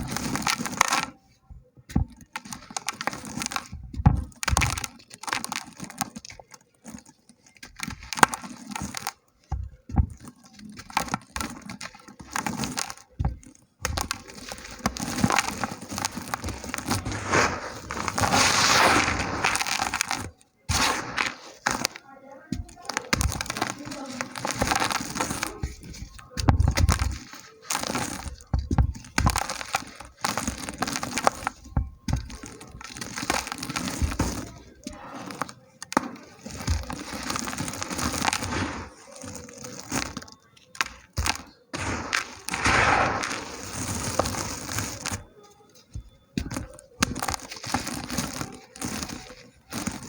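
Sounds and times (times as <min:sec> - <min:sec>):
dirt clumps crumbling: 0:00.0 - 0:50.0.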